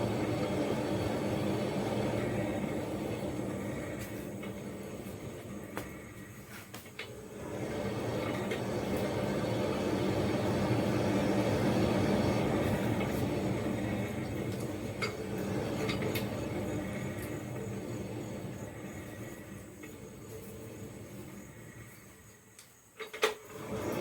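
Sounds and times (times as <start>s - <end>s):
hand-crank blower whirring: 0.0s - 24.0s.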